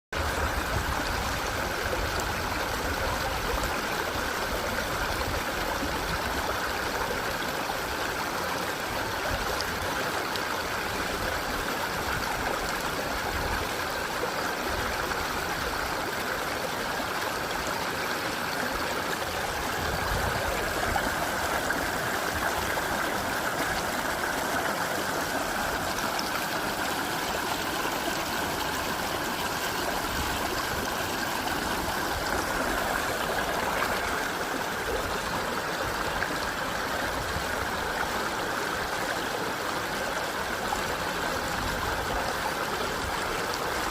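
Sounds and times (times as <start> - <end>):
stream rushing over rocks: 0.2 - 43.9.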